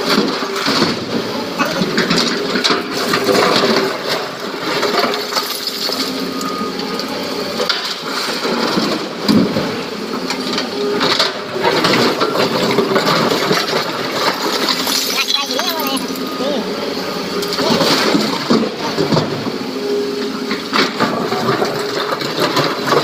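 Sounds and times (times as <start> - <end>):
excavator engine running: 0.0 - 23.0.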